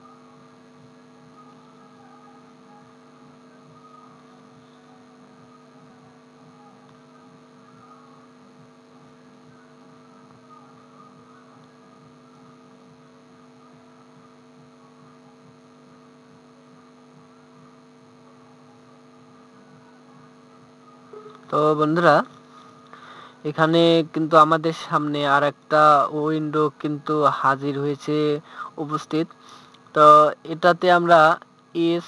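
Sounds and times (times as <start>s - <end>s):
faint electrical hum: 0.0s - 32.0s.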